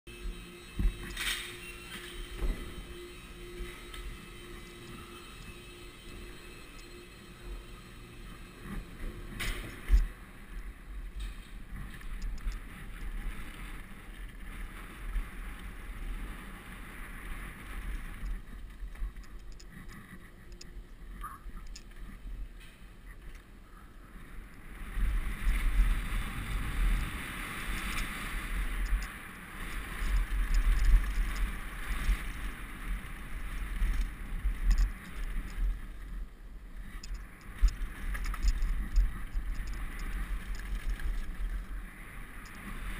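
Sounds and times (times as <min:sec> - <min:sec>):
bike tyres rumbling on gravel: 0:00.1 - 0:42.9
wind buffeting microphone: 0:00.1 - 0:42.9.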